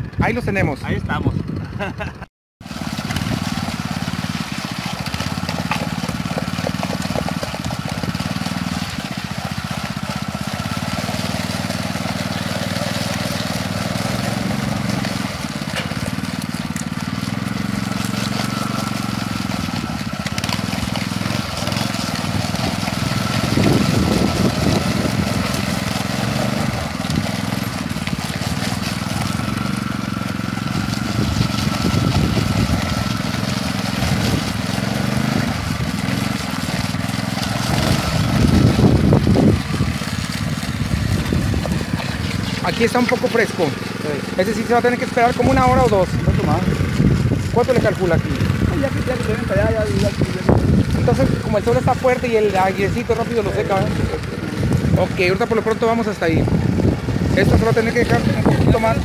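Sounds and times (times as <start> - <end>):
power trowel engine running: 0.0 - 59.0.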